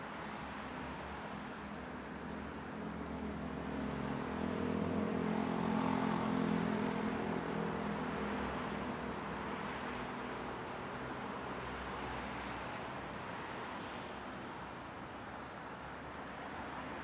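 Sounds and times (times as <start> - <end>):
background traffic noise: 0.0 - 17.0.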